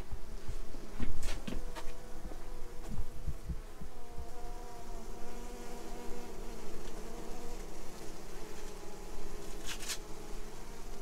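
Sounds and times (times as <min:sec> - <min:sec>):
bees buzzing in a hive: 0:00.0 - 0:11.0.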